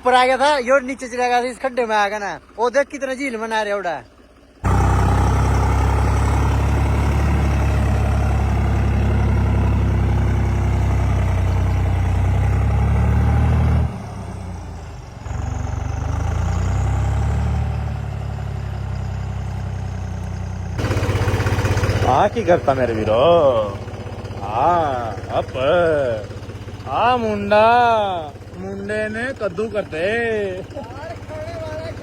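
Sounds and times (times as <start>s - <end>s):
tractor diesel engine running hard: 0.0s - 32.0s.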